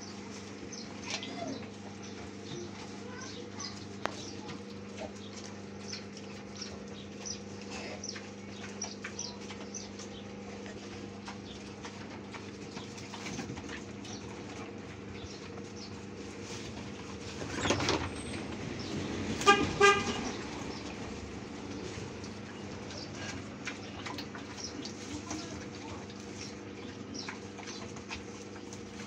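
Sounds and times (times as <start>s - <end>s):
pigs crunching greens: 0.0s - 29.0s.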